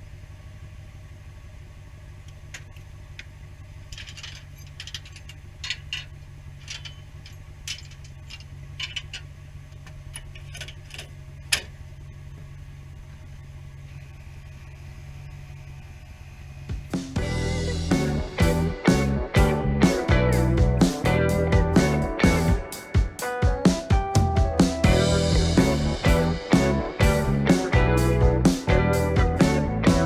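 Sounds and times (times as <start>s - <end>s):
engine idling: 0.0s - 22.6s, 24.8s - 30.0s.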